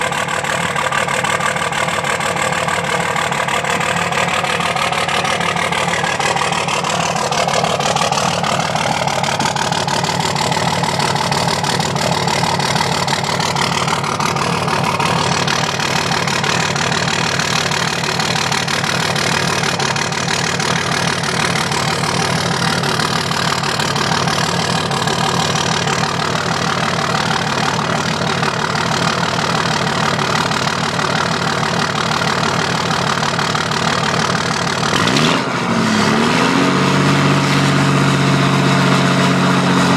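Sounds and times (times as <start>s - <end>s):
diesel engine idling with misfire: 0.0s - 39.9s.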